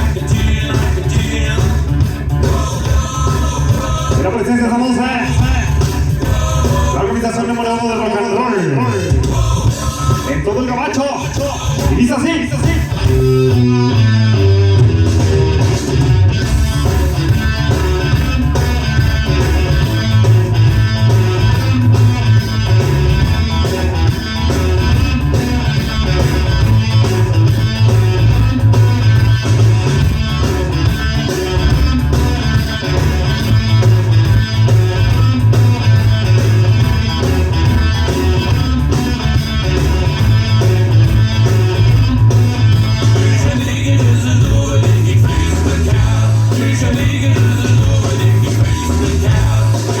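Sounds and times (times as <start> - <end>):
drums: 0.0 - 50.0
heavy bass line: 0.0 - 50.0
rock band playing: 0.0 - 50.0
strummed electric guitar: 0.0 - 50.0.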